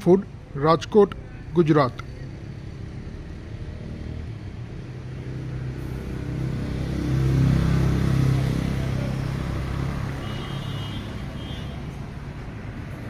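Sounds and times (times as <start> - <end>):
vehicle engine rumbling: 0.3 - 13.0.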